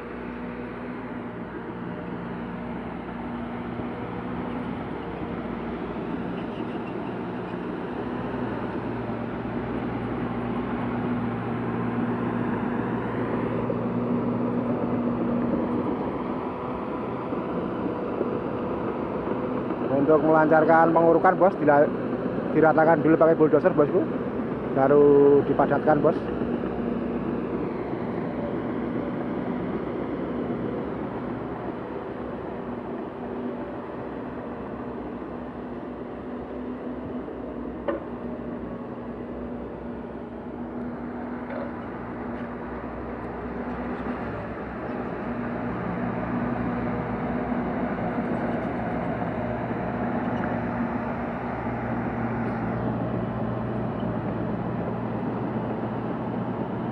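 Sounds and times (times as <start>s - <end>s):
heavy machinery diesel engine: 0.0s - 56.9s.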